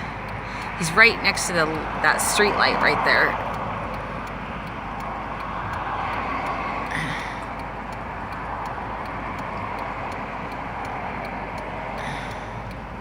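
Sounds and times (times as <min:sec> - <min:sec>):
car cabin road noise: 0:00.0 - 0:13.0
faint ticking: 0:00.0 - 0:13.0.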